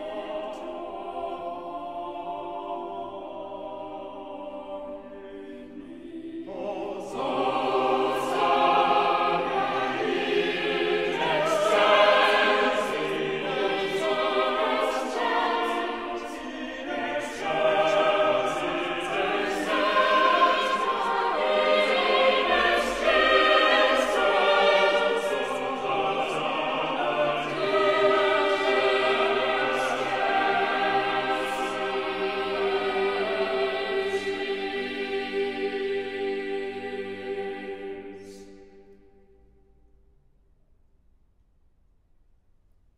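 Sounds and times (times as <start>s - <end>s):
choral singing: 0.0s - 39.4s.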